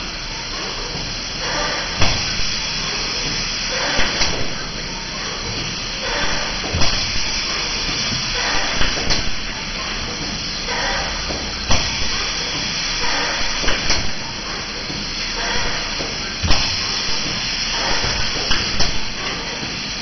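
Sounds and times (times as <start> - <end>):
compressed air hissing: 0.0 - 20.0.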